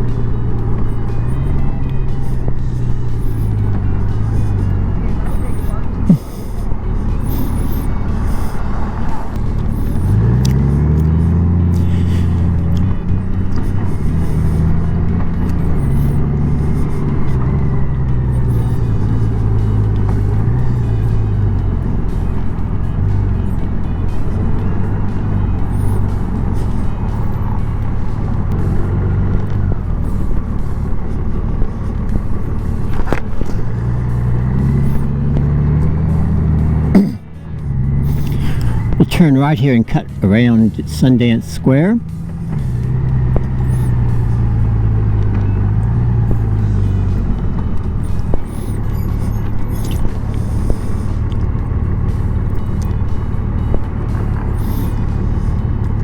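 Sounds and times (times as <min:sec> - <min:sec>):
motorcycle engine running: 0:00.0 - 0:56.0
tyre and road noise: 0:00.0 - 0:56.0.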